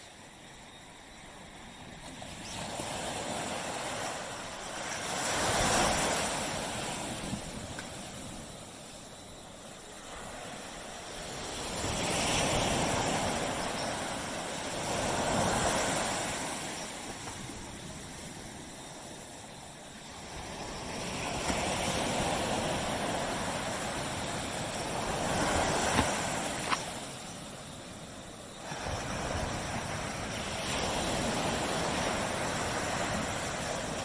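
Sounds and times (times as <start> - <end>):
small waves washing up sand: 0.0 - 34.0.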